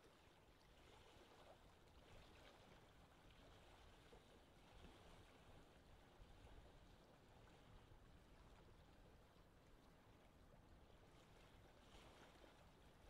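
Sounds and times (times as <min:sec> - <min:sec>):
water lapping and rippling: 0:00.0 - 0:13.0.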